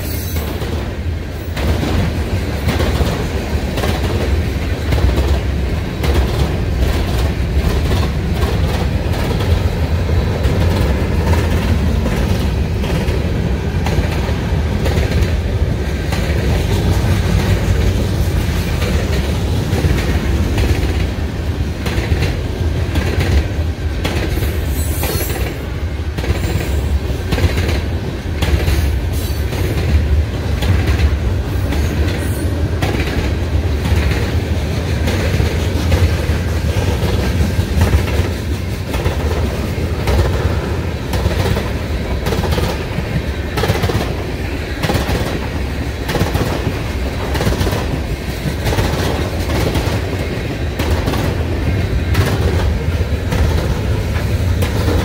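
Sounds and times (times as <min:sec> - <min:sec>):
freight train rumbling past: 0:00.0 - 0:55.0
wheels clacking over rail joints: 0:00.3 - 0:55.0.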